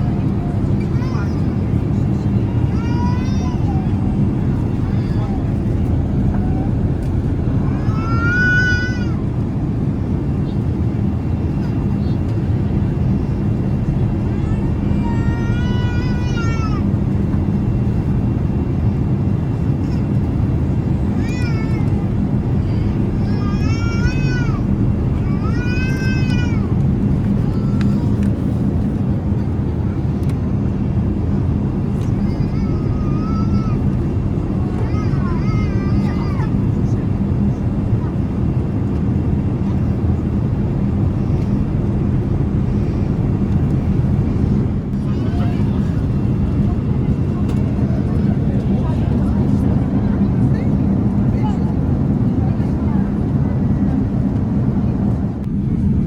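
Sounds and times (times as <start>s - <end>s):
airliner cabin noise: 0.0s - 56.0s.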